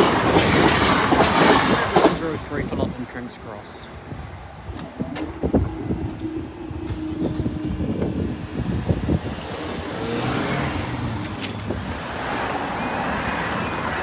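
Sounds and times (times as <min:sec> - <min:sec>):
cars driving across: 0:00.0 - 0:14.0.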